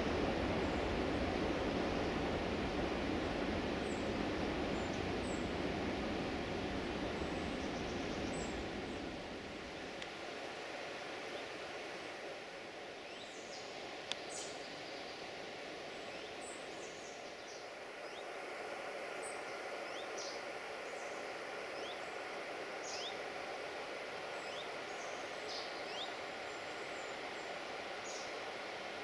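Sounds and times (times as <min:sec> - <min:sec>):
steady rushing noise: 0:00.0 - 0:13.0, 0:17.6 - 0:29.0.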